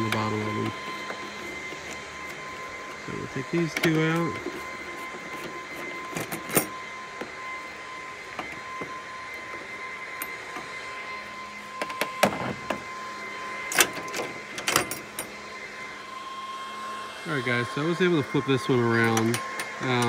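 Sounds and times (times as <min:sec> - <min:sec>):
high-pitched hum: 0:00.0 - 0:20.0.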